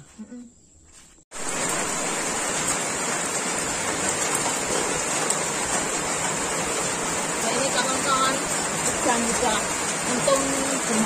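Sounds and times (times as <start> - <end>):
rain falling: 1.3 - 11.0.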